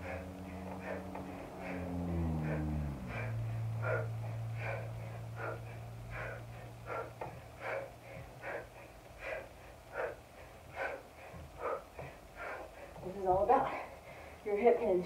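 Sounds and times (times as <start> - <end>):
low steady hum: 0.0 - 15.0
woman's sharp rhythmic breaths: 0.0 - 15.0.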